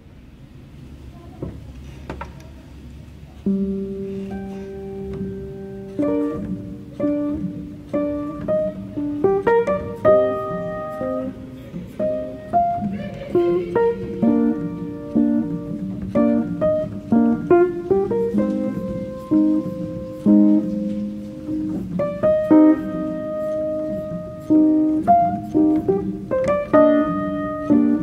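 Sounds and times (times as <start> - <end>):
plucked string instrumental music: 3.5 - 28.0.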